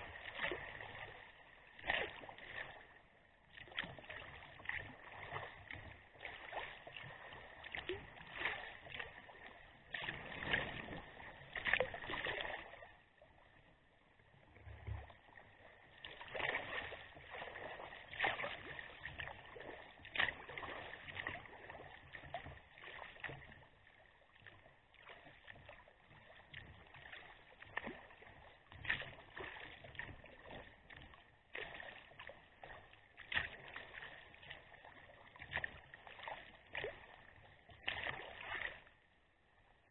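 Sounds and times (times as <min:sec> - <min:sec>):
paddle strokes splashing: 0:00.0 - 0:39.9
water lapping along hull: 0:00.0 - 0:39.9.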